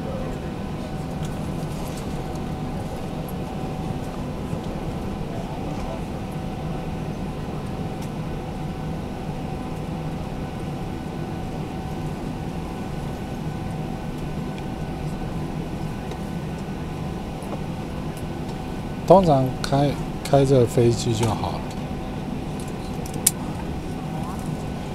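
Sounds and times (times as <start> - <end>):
airliner cabin rumble: 0.0 - 24.9.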